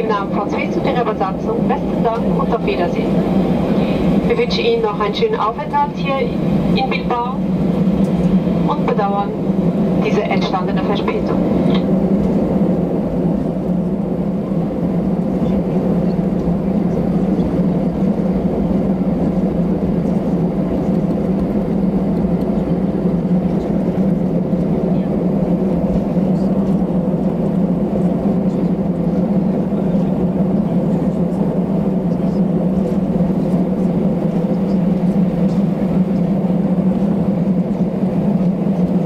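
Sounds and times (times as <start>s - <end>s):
jet engines humming in cabin: 0.0s - 39.0s.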